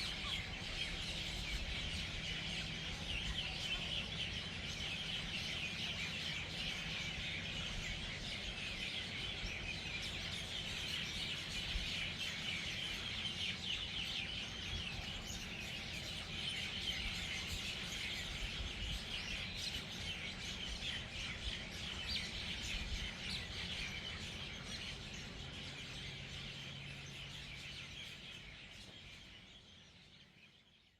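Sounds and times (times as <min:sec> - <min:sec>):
chorus of birds chirping: 0:00.0 - 0:30.9.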